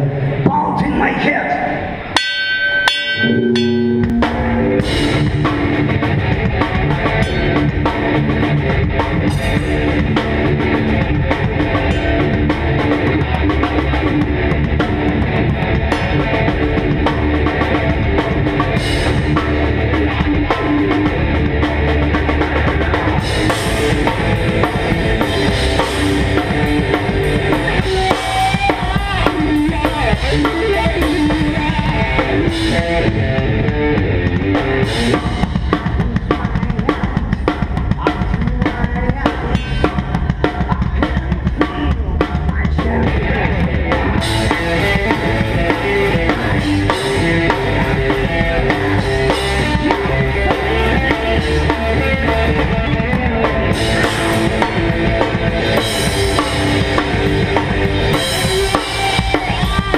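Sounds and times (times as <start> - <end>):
live metal band playing: 0.0 - 59.9.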